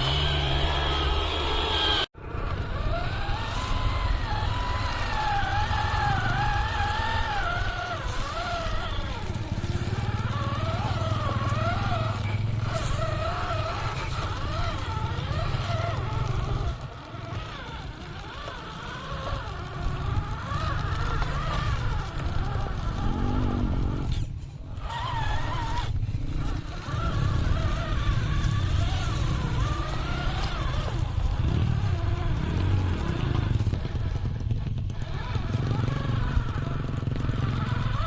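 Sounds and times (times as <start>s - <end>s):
electric motor and gearbox whining: 0.0s - 38.0s.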